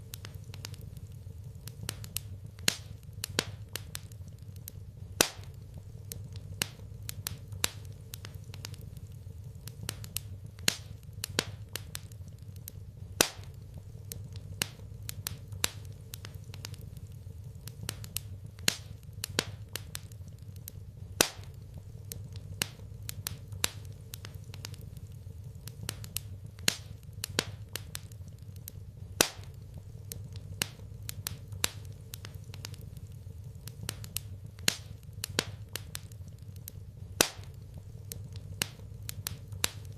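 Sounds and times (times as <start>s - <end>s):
low steady hum: 0.0s - 39.9s
wood fire crackling: 0.0s - 39.9s.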